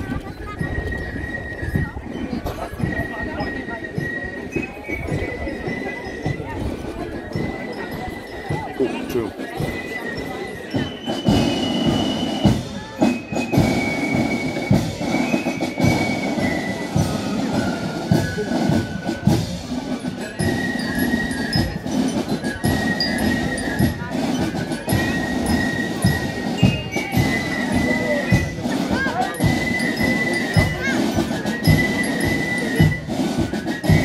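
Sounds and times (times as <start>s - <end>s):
chatter of voices: 0.0s - 34.0s
marching band music: 0.0s - 34.0s.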